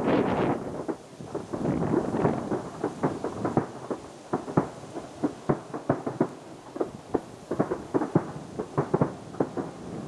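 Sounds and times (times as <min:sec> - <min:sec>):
firework shells bursting: 0:00.0 - 0:10.0.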